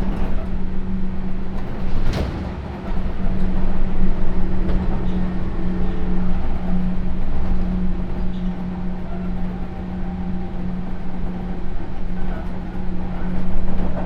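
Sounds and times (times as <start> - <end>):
constant low hum: 0.0 - 14.0
wheels rumbling on rail: 0.0 - 14.0.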